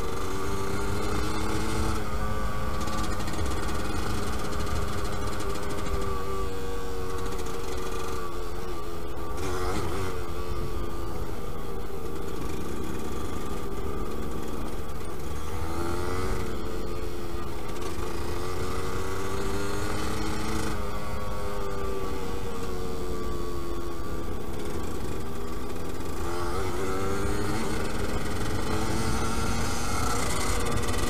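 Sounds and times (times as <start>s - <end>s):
two-stroke motorcycle engine: 0.0s - 31.0s.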